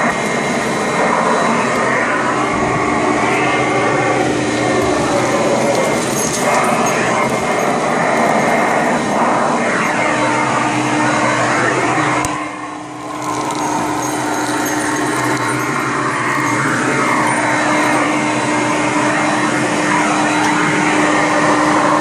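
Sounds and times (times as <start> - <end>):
vacuum cleaner motor whine: 0.0 - 22.0.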